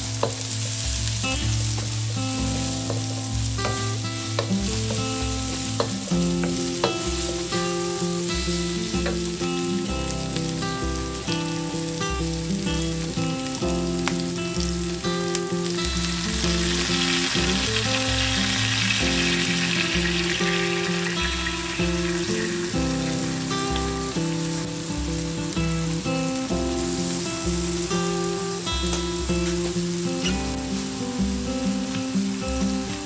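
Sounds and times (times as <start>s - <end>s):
background music with bass: 0.0s - 32.9s
vegetables sizzling in a wok: 0.0s - 33.0s.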